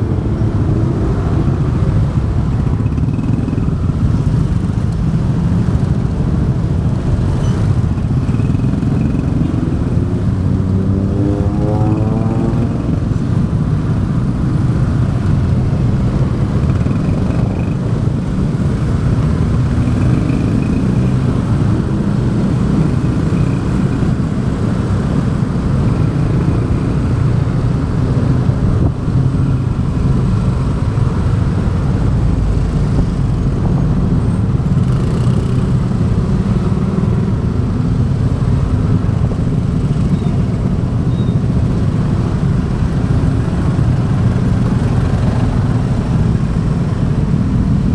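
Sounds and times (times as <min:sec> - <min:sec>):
motorbike engine and road noise: 0:00.0 - 0:47.9.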